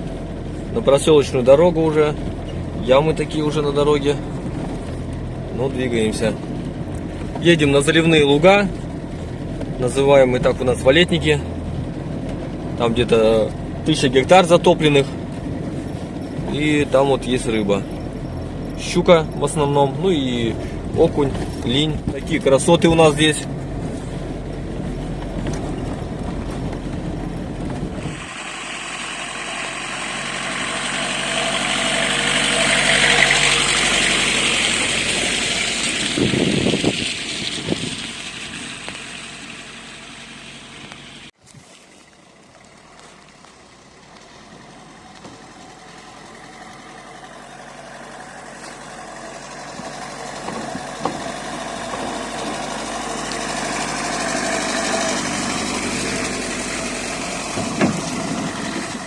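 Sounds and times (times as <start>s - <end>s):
engine running steadily: 0.0s - 59.0s
vehicle driving on rough road: 0.0s - 59.0s.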